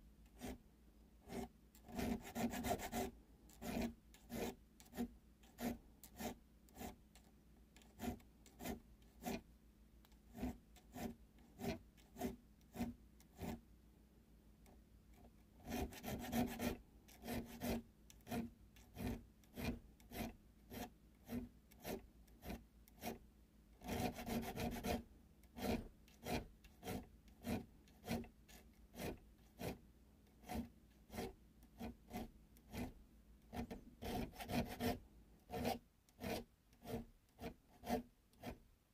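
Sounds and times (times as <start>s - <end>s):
needle file rasping on steel: 0.4s - 0.6s, 1.2s - 13.6s, 15.2s - 23.2s, 23.8s - 38.6s.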